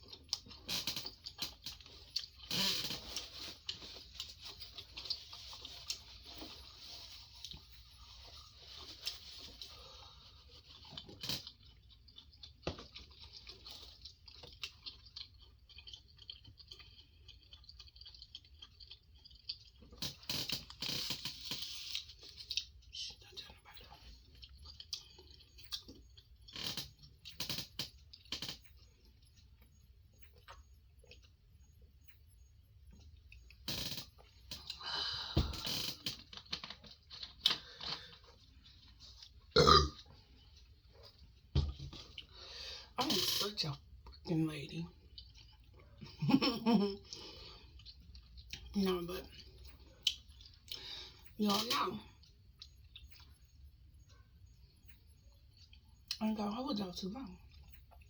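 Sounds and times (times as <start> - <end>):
wet chewing and lip smacks: 0.0 - 56.2, 57.2 - 58.0.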